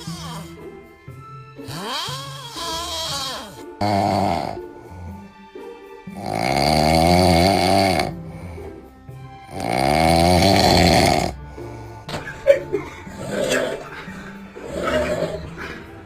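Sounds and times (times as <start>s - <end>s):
loud wavering snoring: 0.0s - 0.7s, 1.6s - 5.4s, 6.1s - 12.1s, 13.0s - 16.0s
background music: 0.0s - 16.0s.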